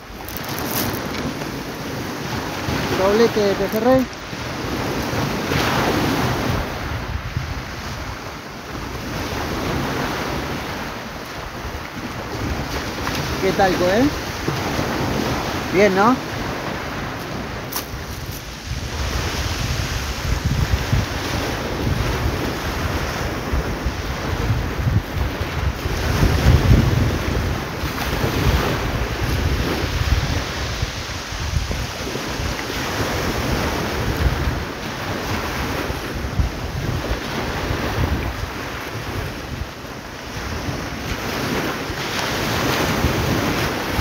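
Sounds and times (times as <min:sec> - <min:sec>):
surf breaking on beach: 0:00.0 - 0:44.0
wind buffeting microphone: 0:00.0 - 0:44.0.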